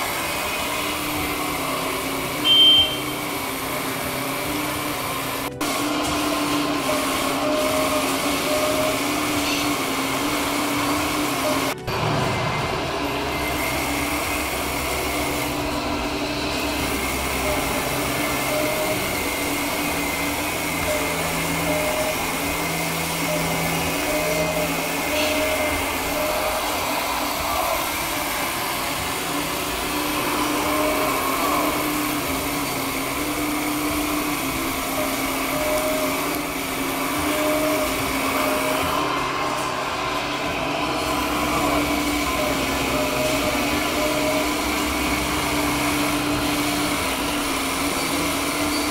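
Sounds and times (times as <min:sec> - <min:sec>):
model excavator hydraulic pump whining: 0:00.0 - 0:48.9.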